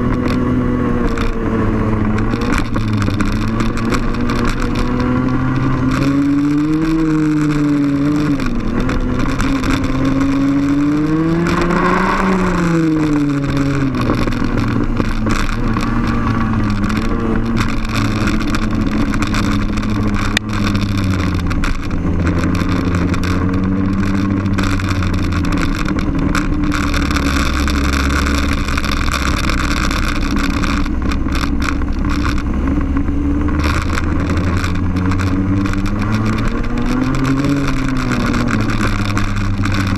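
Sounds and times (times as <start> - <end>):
kart engine at racing revs: 0.0 - 39.9
steady noise: 0.0 - 39.9.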